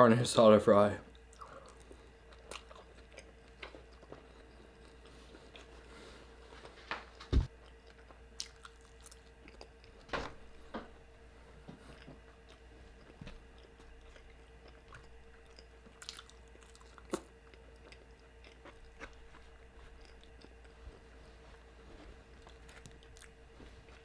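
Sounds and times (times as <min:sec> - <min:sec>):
steady low hum: 0:00.0 - 0:24.0
close chewing of food: 0:01.1 - 0:05.9, 0:07.5 - 0:10.0, 0:11.6 - 0:24.0.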